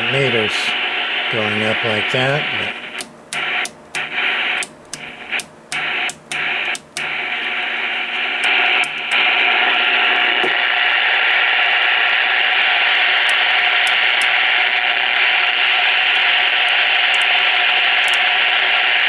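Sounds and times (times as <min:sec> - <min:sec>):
radio click: 0:00.0 - 0:19.0
radio static hiss: 0:00.0 - 0:19.0.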